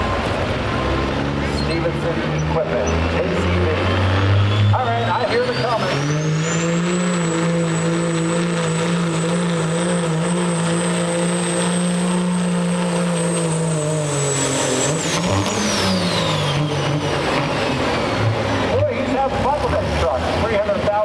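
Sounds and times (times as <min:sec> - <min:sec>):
diesel engine under heavy load: 0:00.0 - 0:21.0.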